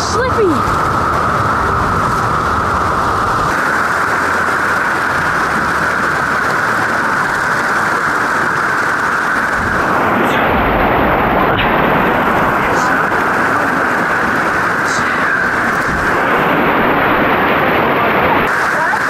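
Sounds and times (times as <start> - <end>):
whitewater rushing over rocks: 0.0 - 19.0.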